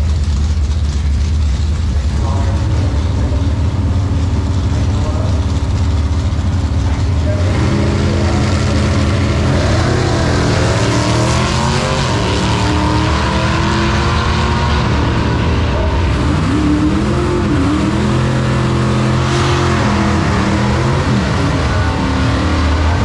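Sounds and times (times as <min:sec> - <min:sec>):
truck engine at full throttle: 0:00.0 - 0:23.0.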